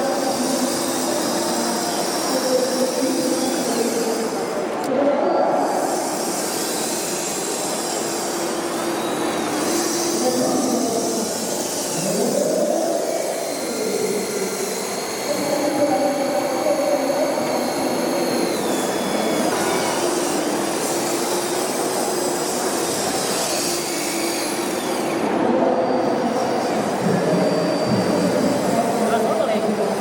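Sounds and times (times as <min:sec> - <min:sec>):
small electric motors whining: 0:00.0 - 0:30.0.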